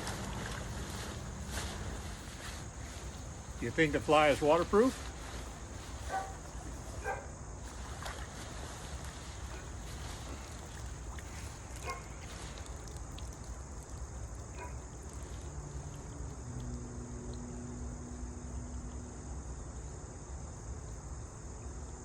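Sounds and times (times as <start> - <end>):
crickets chirring: 0.0 - 22.0
faint low hum: 0.0 - 22.0.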